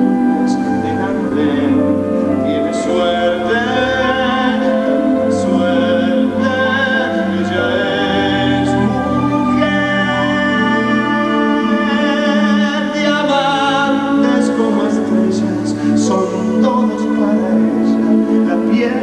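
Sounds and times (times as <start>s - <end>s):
orchestra playing slow music: 0.0s - 19.0s.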